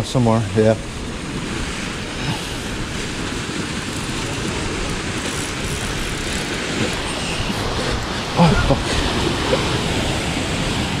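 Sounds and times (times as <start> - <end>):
ocean surf against rocks: 0.0 - 11.0
wind rumble: 0.0 - 11.0.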